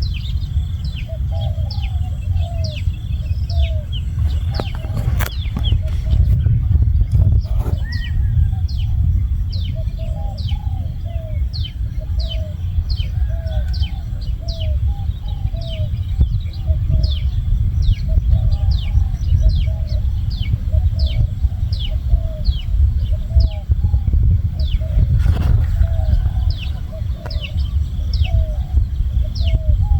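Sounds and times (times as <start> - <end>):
steady low rumble: 0.0 - 29.9.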